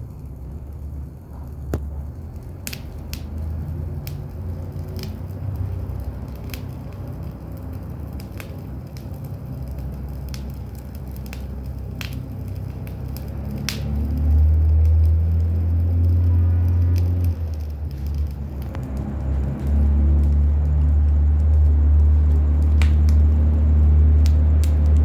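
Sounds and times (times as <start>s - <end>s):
campfire wood crackling: 0.0s - 25.0s
low steady rumble: 0.0s - 25.0s
sharp pops from fire: 0.0s - 25.0s.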